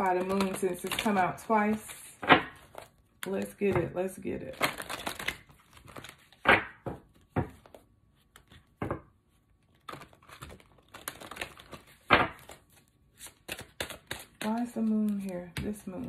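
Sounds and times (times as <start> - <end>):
cards being shuffled: 0.0 - 3.6, 4.5 - 16.0.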